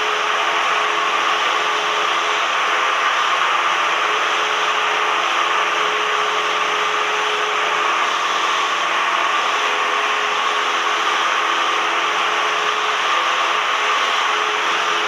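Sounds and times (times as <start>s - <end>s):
airplane engine and propeller drone: 0.0s - 15.0s.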